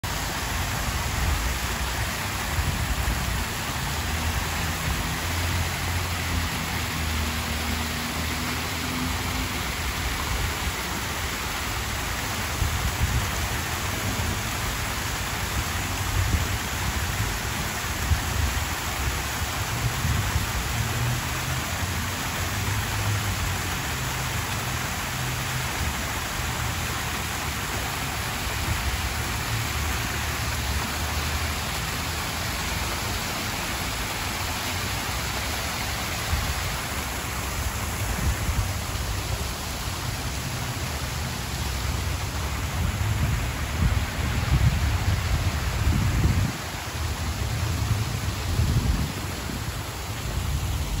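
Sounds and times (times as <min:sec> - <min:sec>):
waterfall splashing into pool: 0:00.0 - 0:51.0.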